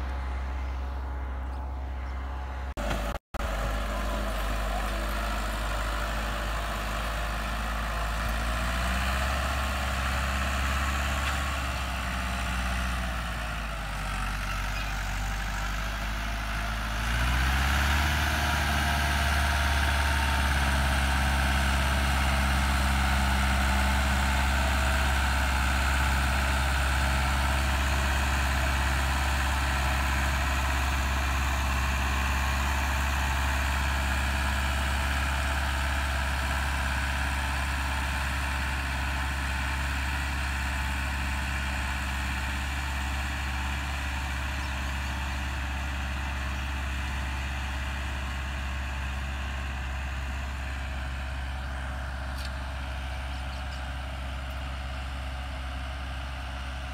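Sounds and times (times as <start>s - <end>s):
tractor diesel engine droning: 0.0s - 56.9s.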